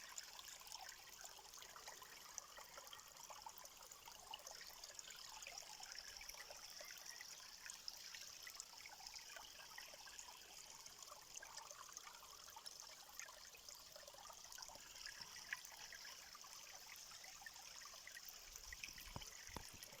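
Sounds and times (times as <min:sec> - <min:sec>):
small water drips: 0:00.0 - 0:20.0
water trickling: 0:00.0 - 0:20.0.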